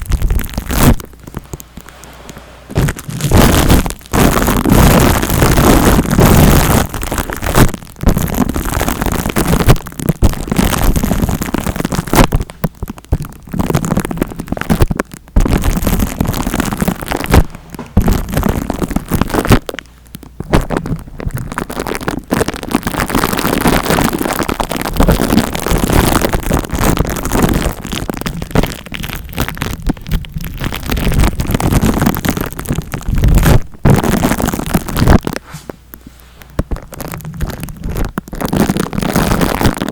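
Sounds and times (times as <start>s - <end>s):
fingers scratching microphone: 0.0s - 39.9s.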